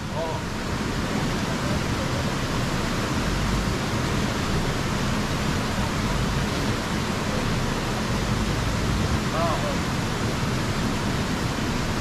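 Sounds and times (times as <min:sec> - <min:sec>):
off-road vehicle rumbling: 0:00.0 - 0:12.0.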